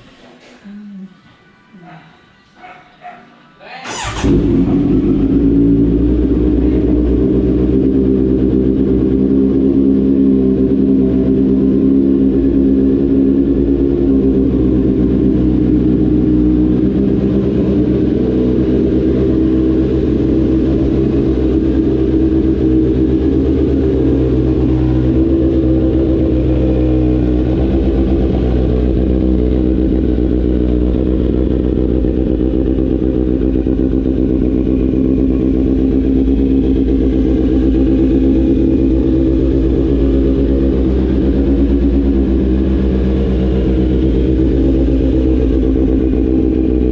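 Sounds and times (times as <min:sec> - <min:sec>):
motorcycle engine running: 0:03.8 - 0:46.9.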